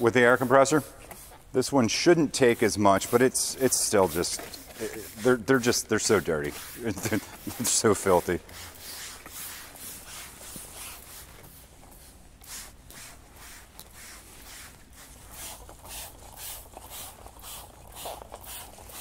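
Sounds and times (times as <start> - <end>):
spray bottle squirts: 0.3 - 1.5, 2.5 - 11.3, 12.4 - 19.0.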